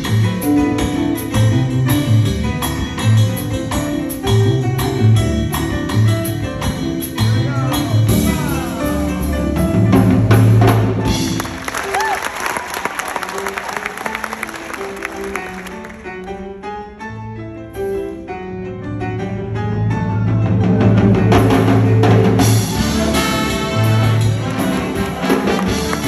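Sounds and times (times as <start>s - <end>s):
jazz band playing mambo: 0.0s - 26.0s.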